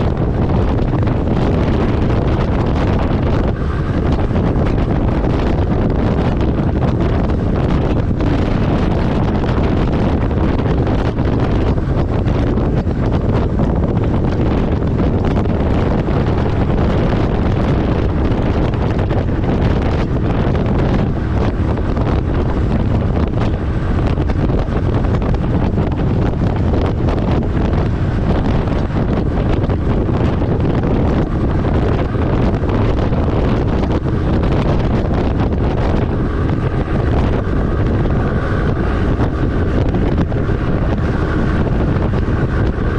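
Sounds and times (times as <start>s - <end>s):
truck road and wind noise: 0.0s - 42.9s
wind buffeting microphone: 0.0s - 42.9s.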